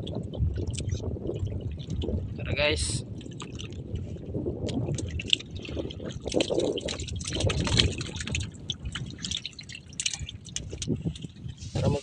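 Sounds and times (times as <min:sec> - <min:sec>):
water splashing around boat: 0:00.0 - 0:12.0.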